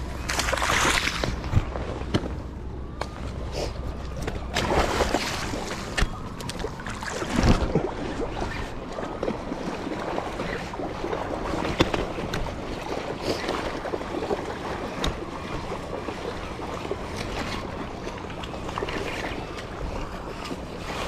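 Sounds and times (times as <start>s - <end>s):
lapping water: 3.5s - 21.0s.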